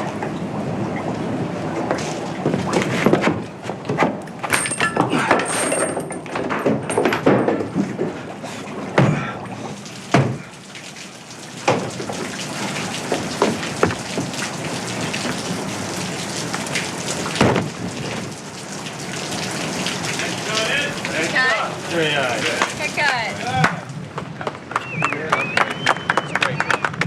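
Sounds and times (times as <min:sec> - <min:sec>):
rain pouring: 0:00.0 - 0:03.6, 0:04.3 - 0:26.6.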